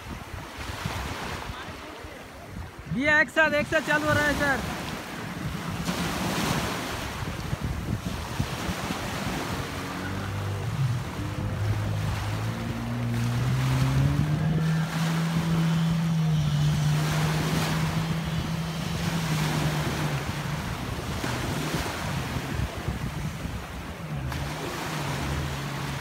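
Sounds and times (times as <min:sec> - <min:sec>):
surf: 0:00.0 - 0:26.0
wind noise on microphone: 0:00.0 - 0:26.0
jet ski engine droning: 0:03.8 - 0:26.0.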